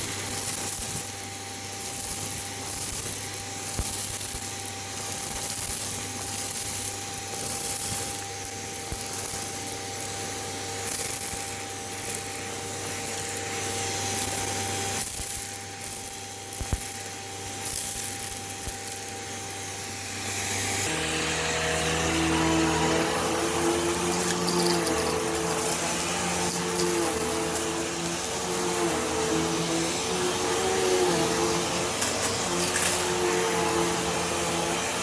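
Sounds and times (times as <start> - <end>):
upright vacuum cleaner running: 0.0 - 35.0.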